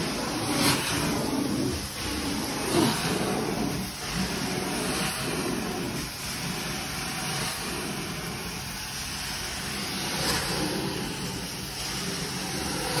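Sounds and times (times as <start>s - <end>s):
carpet cleaner vacuum suction: 0.0s - 13.0s.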